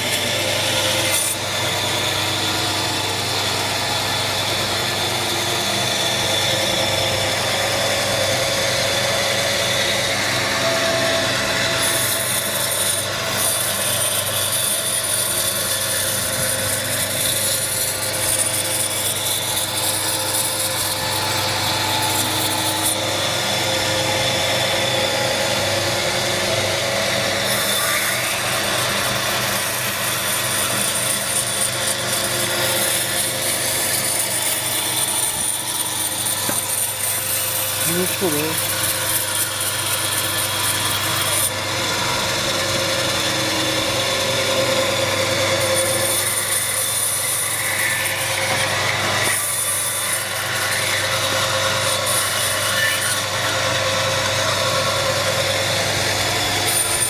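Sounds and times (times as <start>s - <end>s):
power tool cutting wood: 0.0s - 57.0s.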